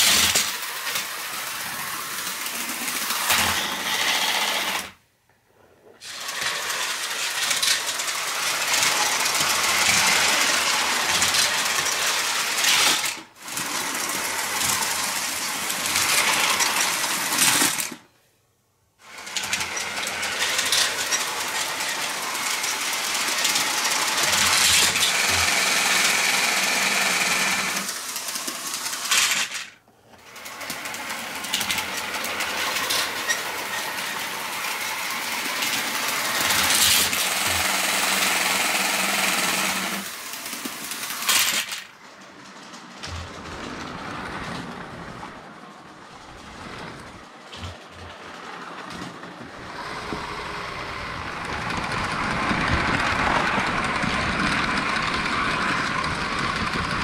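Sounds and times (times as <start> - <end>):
plastic wheels rattling on track: 0.0 - 5.0, 6.0 - 18.0, 19.0 - 57.0
toy train motors whirring: 0.0 - 5.0, 6.0 - 18.0, 19.0 - 44.8, 46.6 - 57.0.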